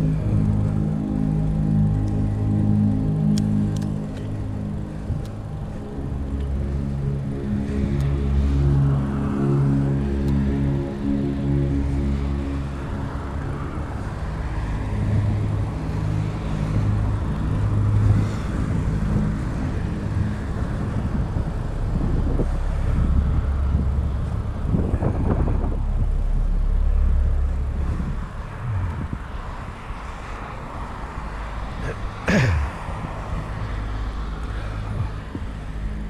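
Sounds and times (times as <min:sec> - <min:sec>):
road traffic: 0:00.0 - 0:36.0
wind rumbling over microphone: 0:00.0 - 0:36.0.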